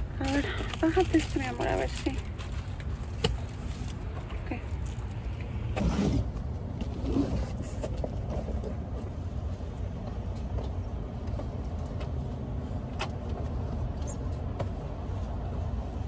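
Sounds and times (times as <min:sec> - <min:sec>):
cars passing and idling: 0:00.0 - 0:16.0.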